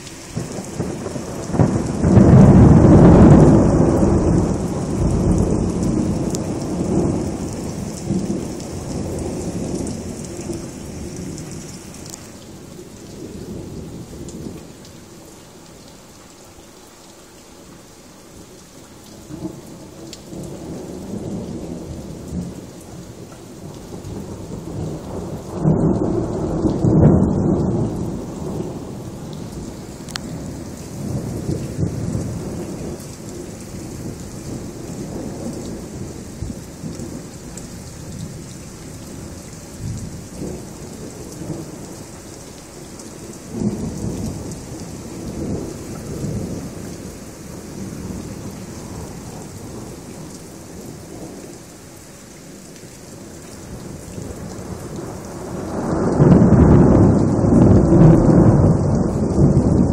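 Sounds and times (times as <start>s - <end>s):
thunder rumbling: 0.0s - 14.6s, 19.3s - 51.4s, 53.6s - 59.9s
steady rain: 0.0s - 59.9s.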